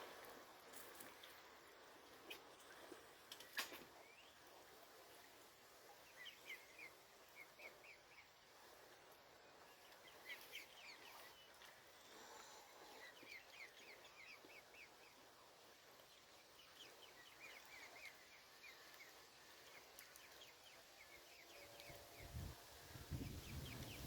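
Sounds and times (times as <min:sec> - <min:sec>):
faint bird chirping: 0:02.0 - 0:24.0.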